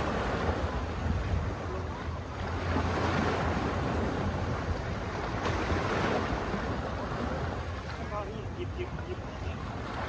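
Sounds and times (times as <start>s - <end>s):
wind buffeting microphone: 0.0s - 8.7s
ocean waves washing in: 0.0s - 10.0s.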